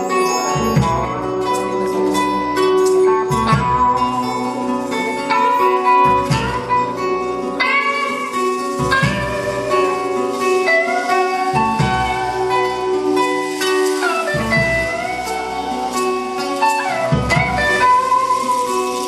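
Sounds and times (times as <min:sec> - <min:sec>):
live band accompaniment: 0:00.0 - 0:19.0.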